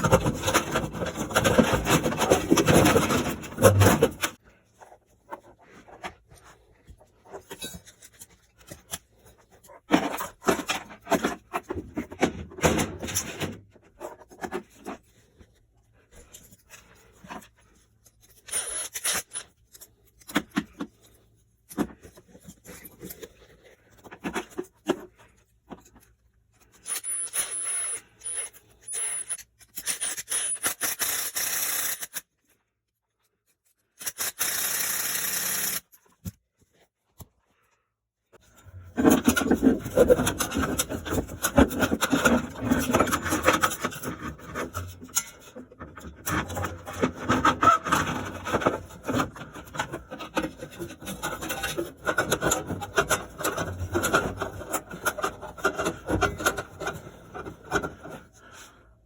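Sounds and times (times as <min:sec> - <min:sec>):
hands scraping tools and parts: 0:00.0 - 0:32.5, 0:38.4 - 0:58.9.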